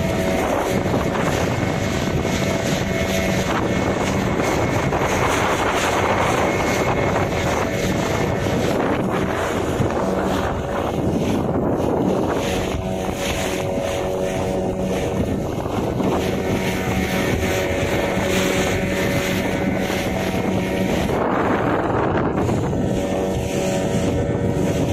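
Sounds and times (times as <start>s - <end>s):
boat engine running: 0.0s - 24.9s
water rushing past hull: 0.0s - 24.9s
wind on microphone: 0.0s - 24.9s.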